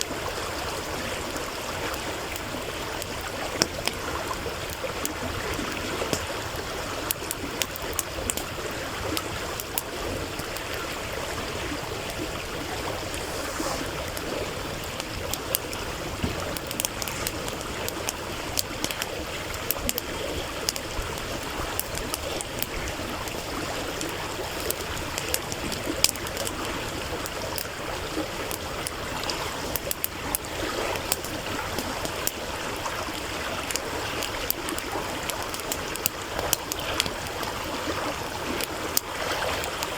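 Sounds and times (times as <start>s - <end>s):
campfire crackling: 0.0s - 39.9s
stream water gurgling: 0.0s - 39.9s.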